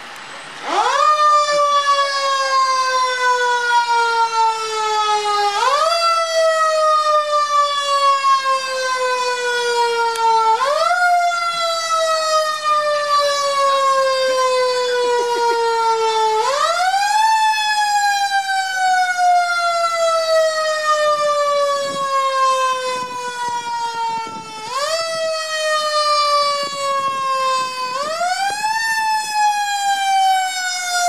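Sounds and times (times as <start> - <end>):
fire engine siren wailing: 0.0 - 31.0.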